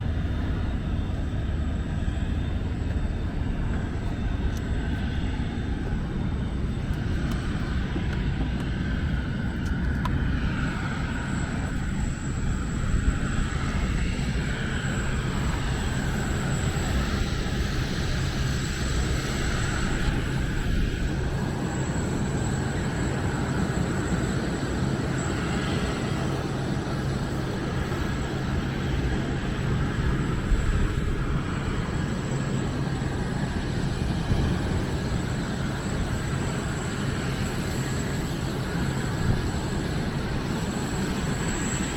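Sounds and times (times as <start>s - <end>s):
jet turbine roar and whine: 0.0s - 41.9s.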